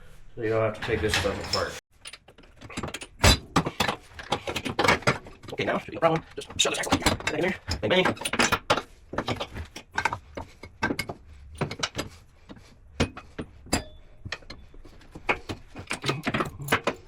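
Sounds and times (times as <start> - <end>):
metallic clanks of tools: 0.8 - 17.0.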